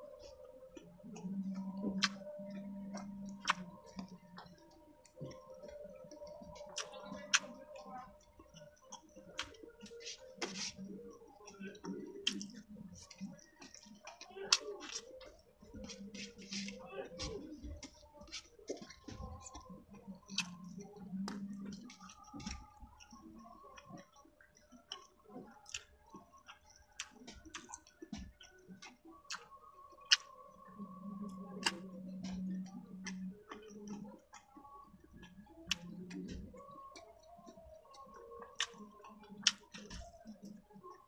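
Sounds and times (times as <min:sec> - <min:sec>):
wet chewing: 0:00.0 - 0:41.0
mouth clicks and lip smacks: 0:00.2 - 0:41.0.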